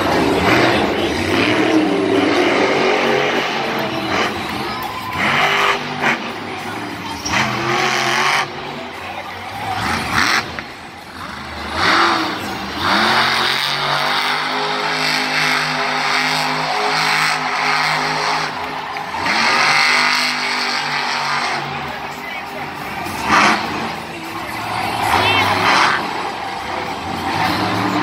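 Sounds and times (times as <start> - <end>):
truck engine revving hard: 0.0 - 28.0.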